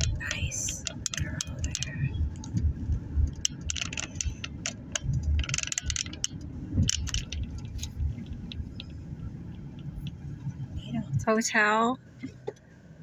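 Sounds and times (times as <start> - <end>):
loose items rattling in car: 0.0 - 12.8
car road and engine rumble: 0.0 - 13.0.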